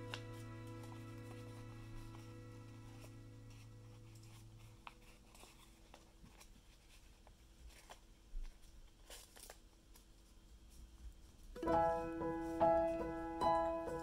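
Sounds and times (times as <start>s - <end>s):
paper rustling and crackling: 0.0s - 13.3s.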